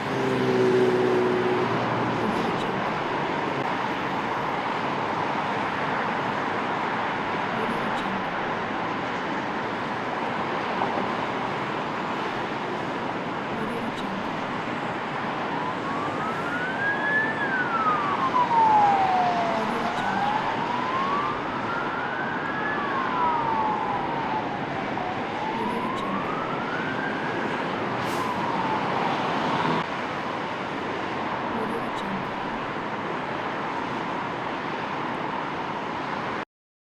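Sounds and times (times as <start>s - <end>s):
emergency siren wailing: 0.0s - 29.9s
city traffic noise: 0.0s - 36.4s.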